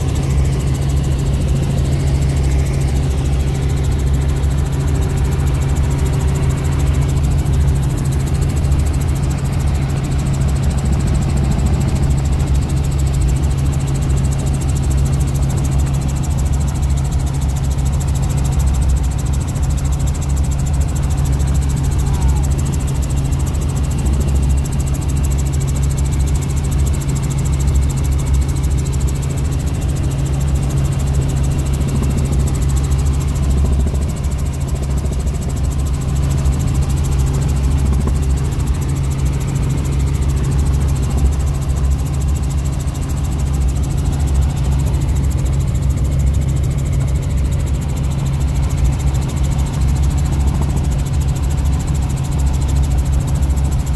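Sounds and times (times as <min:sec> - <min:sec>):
helicopter engine and rotors drone: 0:00.0 - 0:53.9.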